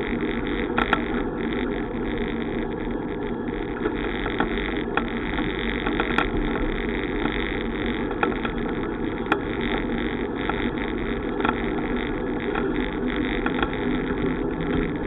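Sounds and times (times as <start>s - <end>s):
bicycle clicks and rattles: 0.0s - 1.6s, 3.6s - 15.0s
bicycle road noise: 0.0s - 15.0s.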